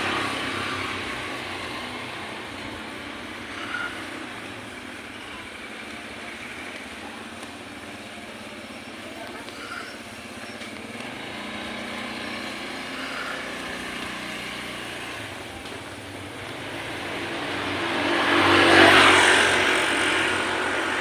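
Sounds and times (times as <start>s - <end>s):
motor vehicle passing: 0.0s - 21.0s.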